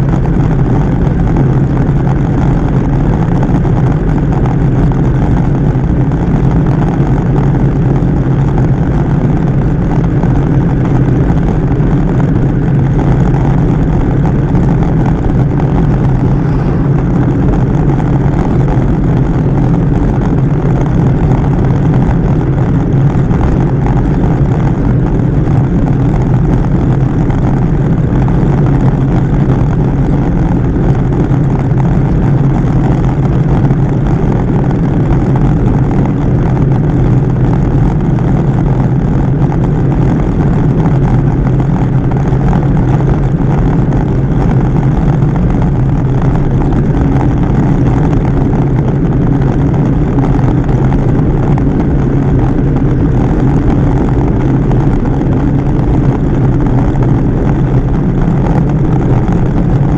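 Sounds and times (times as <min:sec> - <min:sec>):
bike tyres rolling on asphalt: 0:00.0 - 0:59.9
wind rush on microphone: 0:00.0 - 0:59.9.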